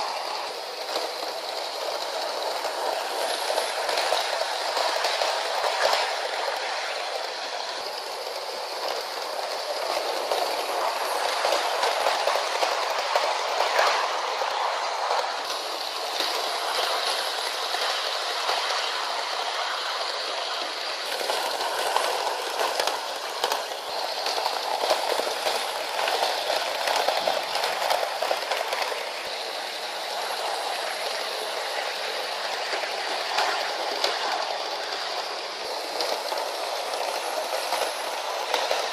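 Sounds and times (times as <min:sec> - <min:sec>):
clicks over rail joints: 0:00.0 - 0:38.9
model train wheels rattling: 0:00.0 - 0:38.9.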